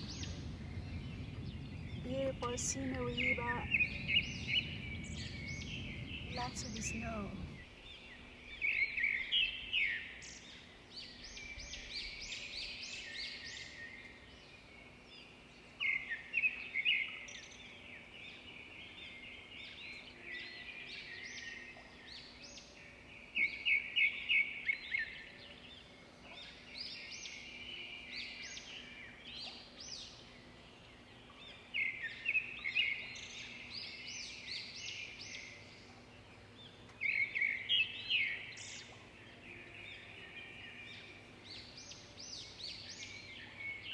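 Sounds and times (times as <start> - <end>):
faint outdoor background: 0.0 - 43.9
songbirds chirping and twittering: 0.0 - 43.9.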